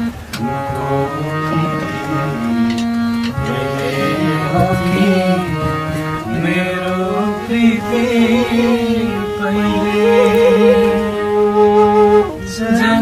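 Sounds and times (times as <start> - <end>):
background music with melody: 0.0 - 13.0
steady drone: 0.0 - 13.0.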